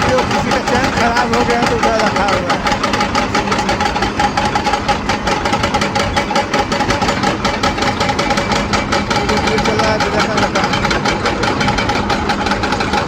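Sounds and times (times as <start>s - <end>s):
excavator diesel engine clattering: 0.0s - 13.0s.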